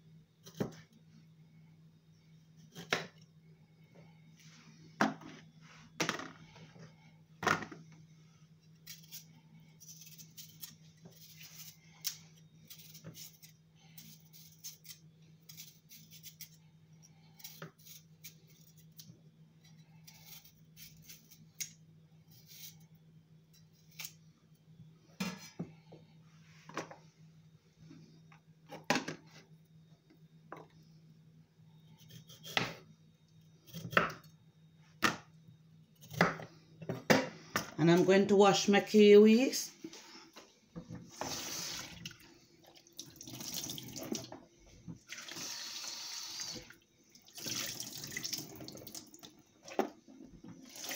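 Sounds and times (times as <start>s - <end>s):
steady low hum: 0.0s - 47.4s.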